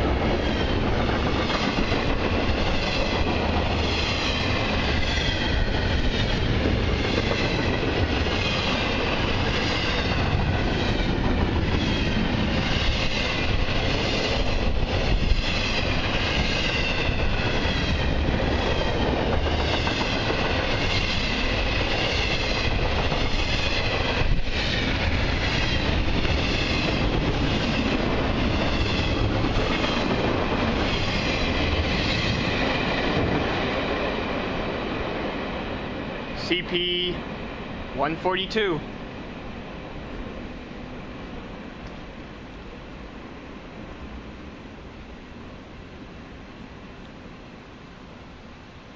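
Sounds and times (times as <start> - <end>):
freight cars rumbling on rails: 0.0 - 44.4.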